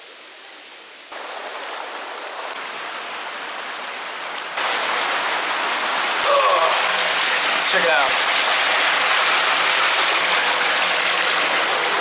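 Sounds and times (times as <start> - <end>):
rushing creek water: 0.6 - 12.0.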